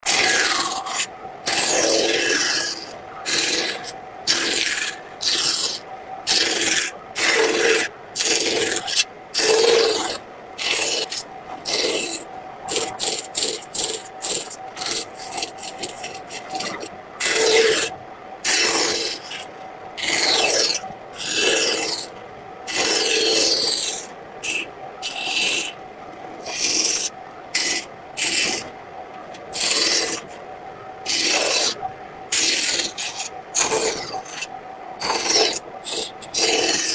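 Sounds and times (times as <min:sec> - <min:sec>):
tool scraping painted wood: 0:00.0 - 0:17.9, 0:18.5 - 0:25.8, 0:26.4 - 0:30.4, 0:31.1 - 0:36.9
faint steady hum: 0:00.0 - 0:36.9.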